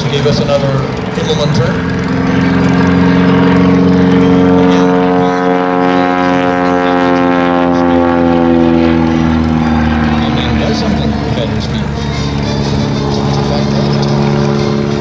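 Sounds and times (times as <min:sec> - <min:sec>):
biplane engine droning: 0:00.0 - 0:15.0.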